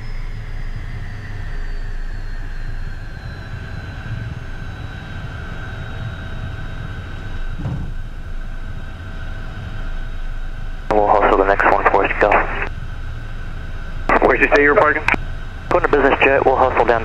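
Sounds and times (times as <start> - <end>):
jet engine high whine: 0.0 - 17.0
jet engines low rumble: 0.0 - 17.0.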